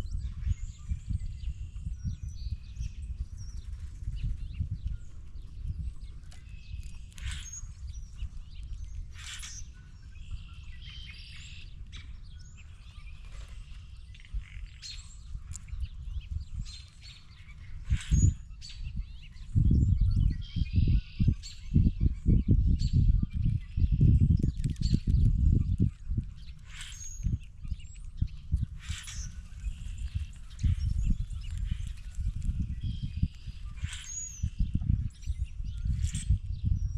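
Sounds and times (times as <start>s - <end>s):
birds chirping: 0.0s - 36.9s.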